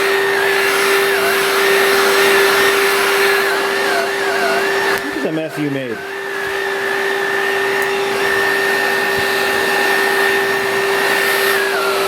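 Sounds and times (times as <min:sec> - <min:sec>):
handheld vacuum whining: 0:00.0 - 0:12.0.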